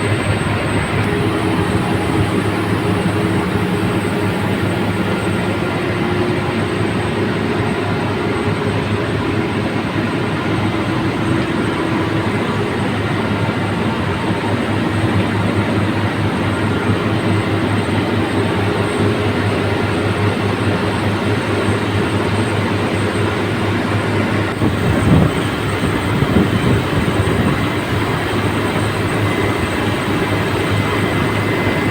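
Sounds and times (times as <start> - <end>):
drilling rig machinery running: 0.0 - 31.9.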